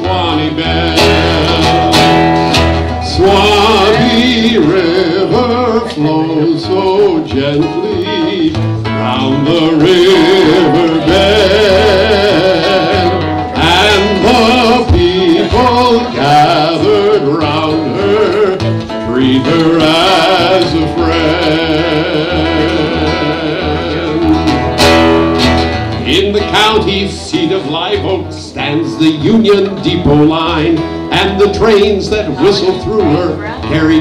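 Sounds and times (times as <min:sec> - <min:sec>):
man singing: 0:00.0 - 0:25.0, 0:25.6 - 0:34.0
acoustic guitar: 0:00.0 - 0:34.0.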